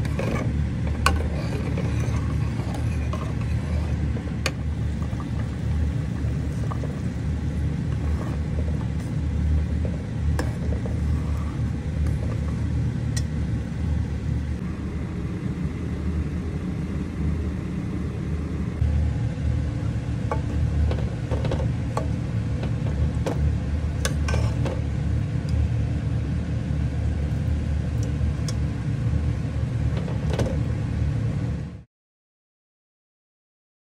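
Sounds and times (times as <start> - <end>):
low rumble: 0.0 - 31.8.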